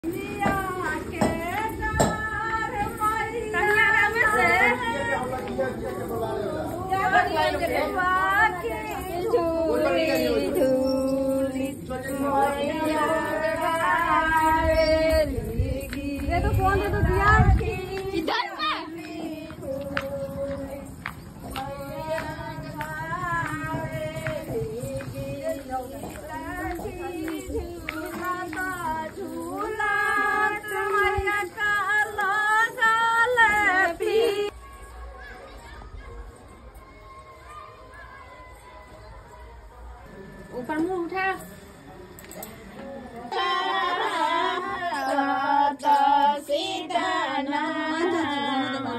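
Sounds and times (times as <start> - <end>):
women singing chant-like melody: 0.0 - 6.0, 6.6 - 34.6, 43.1 - 48.9.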